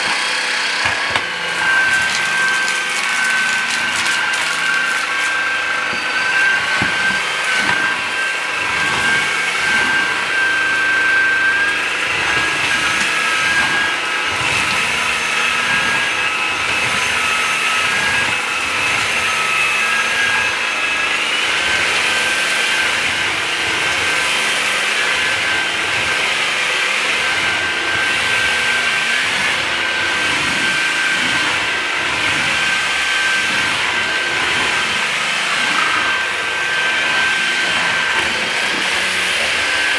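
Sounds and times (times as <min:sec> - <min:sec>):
stick vacuum whining on rug: 0:00.0 - 0:39.9.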